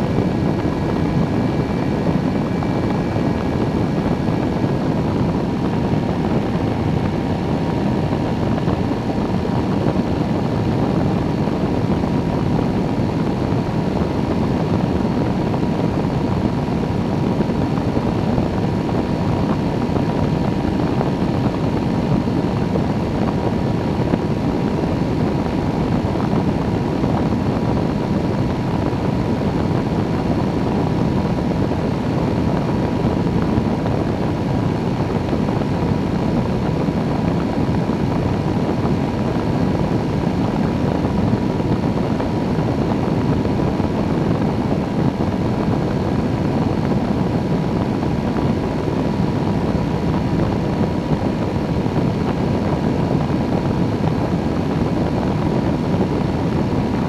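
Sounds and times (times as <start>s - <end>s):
engine and propeller drone: 0.0s - 57.0s
wind rushing at microphone: 0.0s - 57.0s.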